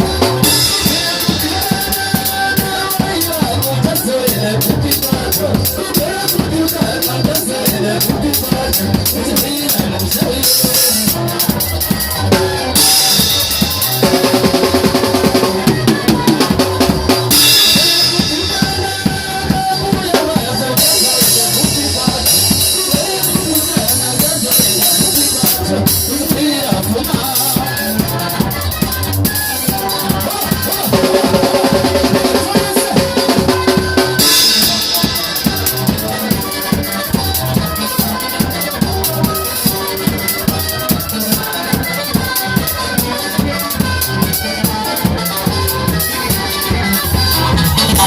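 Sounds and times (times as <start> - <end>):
drum kit beat: 0.0 - 48.0
pitched instruments: 0.0 - 48.0.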